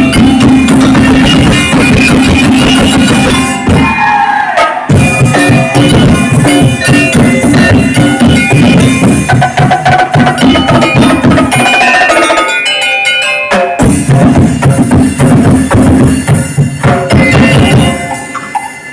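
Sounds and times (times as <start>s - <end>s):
music with fast percussion beat: 0.0s - 18.9s.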